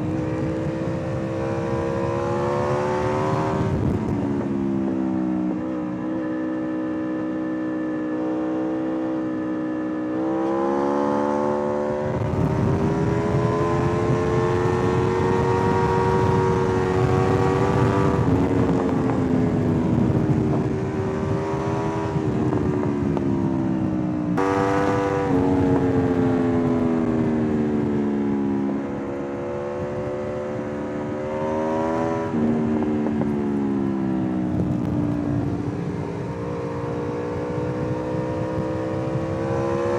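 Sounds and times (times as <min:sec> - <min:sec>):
wind on microphone: 0:00.0 - 0:06.0, 0:11.5 - 0:39.9
motorcycle engine shifting gears: 0:00.0 - 0:39.9.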